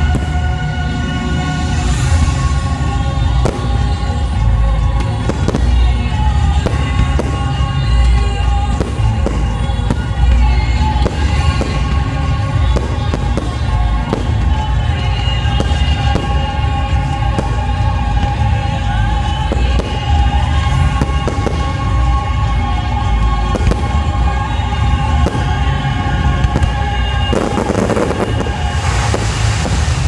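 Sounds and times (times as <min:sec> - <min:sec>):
fireworks bursting with sharp bangs: 0:00.0 - 0:30.0
music with heavy bass: 0:00.0 - 0:30.0.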